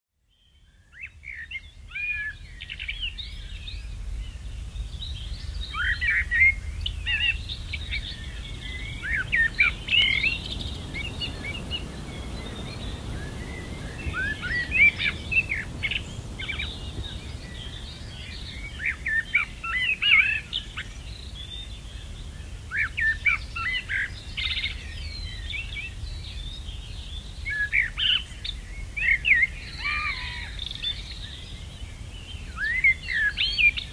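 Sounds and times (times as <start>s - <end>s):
songbirds singing: 0.2s - 33.9s.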